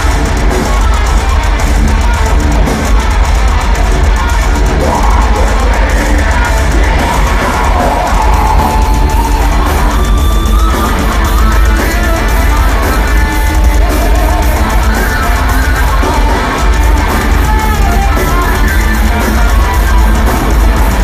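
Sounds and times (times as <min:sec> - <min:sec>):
heavy metal band playing: 0:00.0 - 0:21.0.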